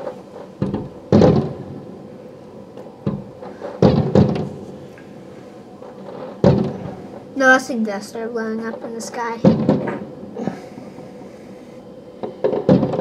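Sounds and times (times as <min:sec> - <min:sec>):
firework shells booming: 0:00.0 - 0:07.4, 0:08.6 - 0:11.2, 0:12.2 - 0:13.0.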